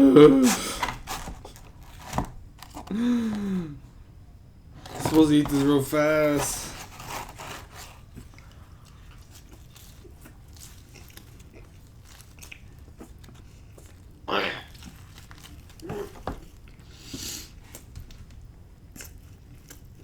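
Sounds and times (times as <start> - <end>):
chewing pizza: 0.0 - 4.1, 4.7 - 20.0.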